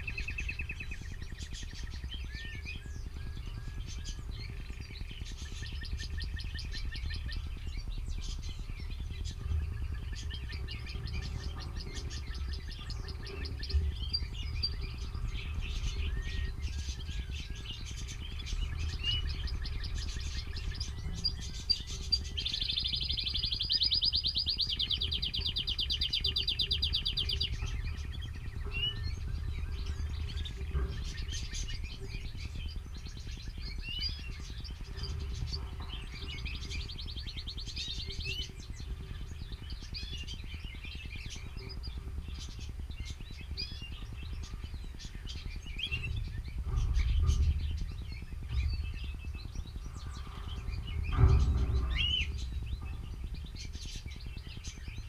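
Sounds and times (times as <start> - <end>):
canaries chirping and singing: 0.0 - 55.0
low rumble: 0.0 - 55.0.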